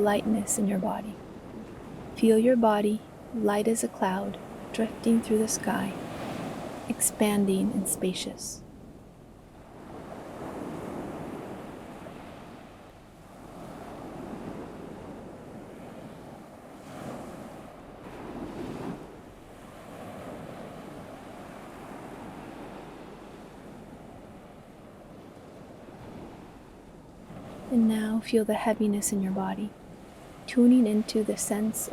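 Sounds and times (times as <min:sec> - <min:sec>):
ocean waves washing onto shore: 0:00.0 - 0:31.9.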